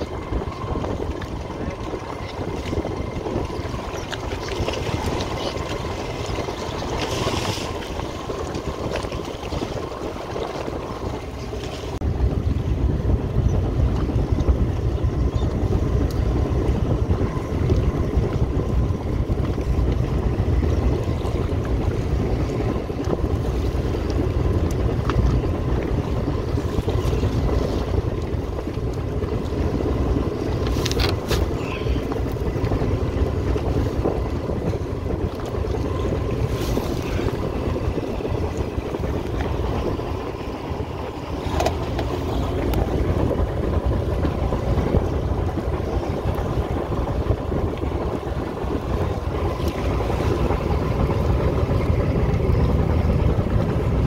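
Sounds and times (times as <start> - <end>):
boat engine running: 0.0 - 54.0
wind on microphone: 0.0 - 54.0.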